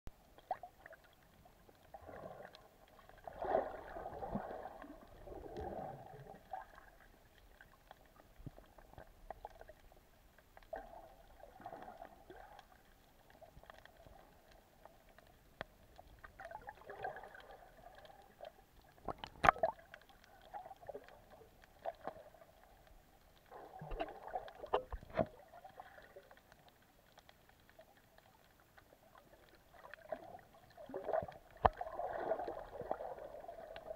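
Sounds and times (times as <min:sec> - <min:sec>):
muffled underwater sloshing: 0:00.1 - 0:33.9.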